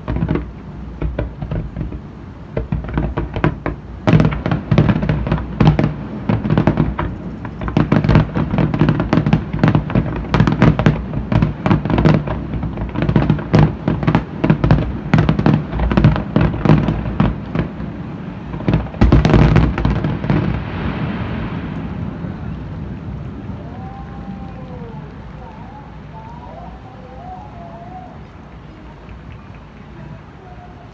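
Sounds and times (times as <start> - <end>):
fireworks bursting with crackle: 0.0 - 30.9.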